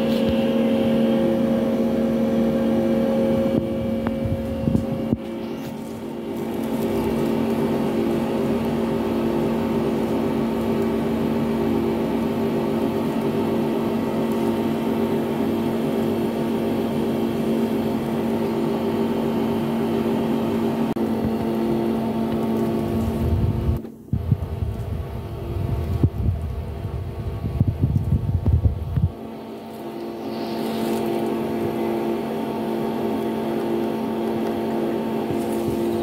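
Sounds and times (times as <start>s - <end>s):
pipe freezer mechanical hum: 0.0s - 36.0s.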